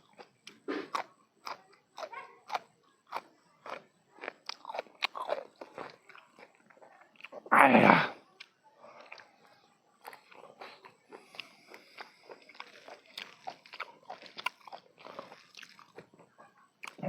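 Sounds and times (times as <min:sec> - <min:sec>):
mouth crunching food: 0:00.0 - 0:17.0.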